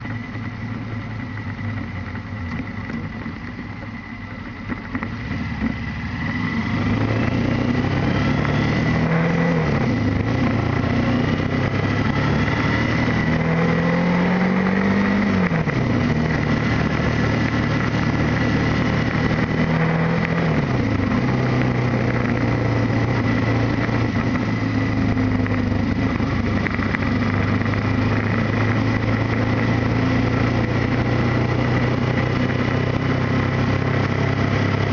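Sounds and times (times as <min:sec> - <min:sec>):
motorcycle engine accelerating: 0:00.0 - 0:34.9
wind and road noise: 0:00.0 - 0:34.9.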